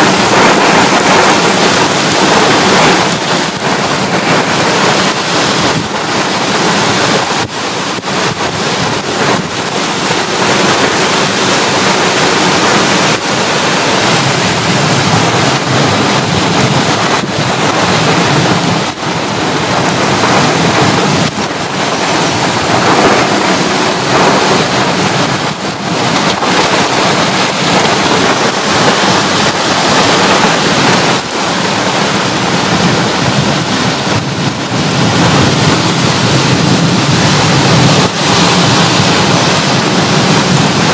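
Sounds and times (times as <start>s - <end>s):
gusty wind buffeting microphone: 0.0s - 40.9s
heavy rain: 0.0s - 40.9s.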